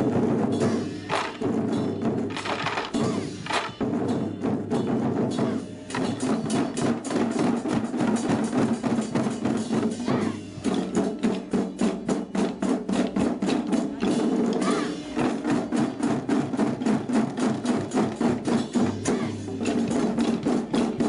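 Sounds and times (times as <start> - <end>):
taiko drum ensemble playing: 0.0 - 21.0.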